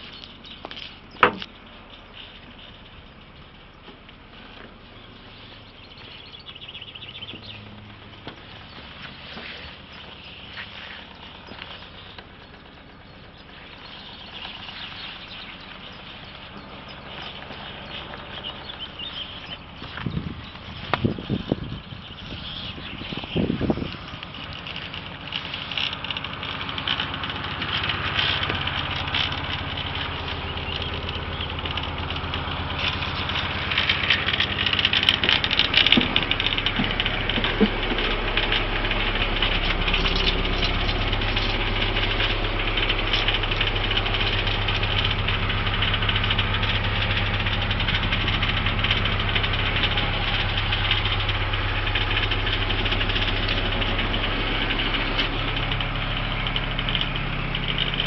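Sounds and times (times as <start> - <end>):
diesel boat engine idling: 0.0 - 58.0.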